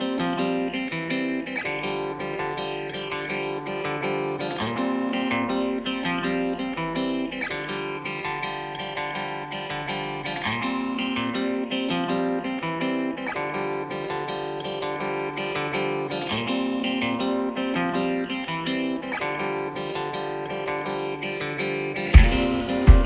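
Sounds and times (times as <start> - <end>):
guitar music: 0.0 - 23.0.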